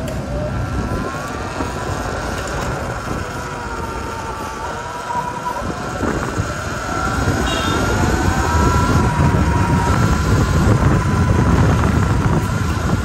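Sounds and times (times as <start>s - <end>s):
electric motor whine: 0.0s - 13.0s
wind and road rush: 0.0s - 13.0s.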